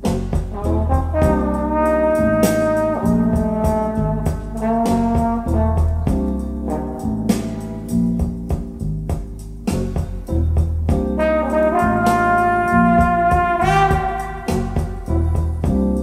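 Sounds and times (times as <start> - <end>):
drums and bass: 0.0 - 16.0
trombone playing melody: 0.0 - 16.0.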